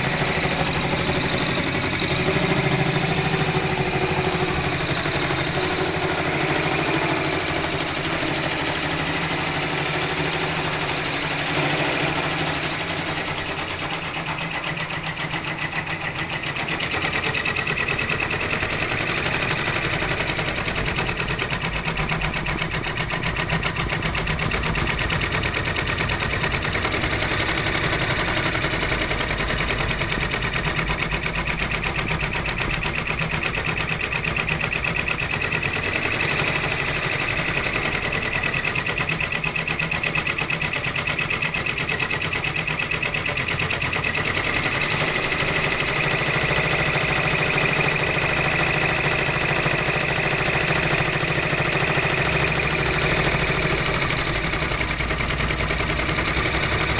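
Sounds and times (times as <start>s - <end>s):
embroidery machine stitching: 0.0s - 56.9s.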